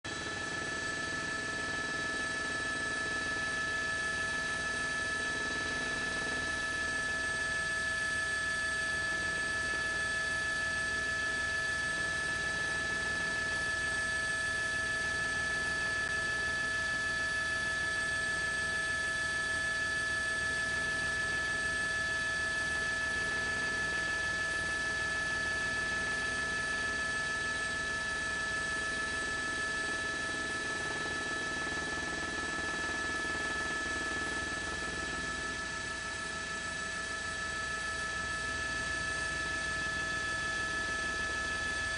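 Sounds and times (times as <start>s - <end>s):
constant high tones whining: 0.1s - 41.9s.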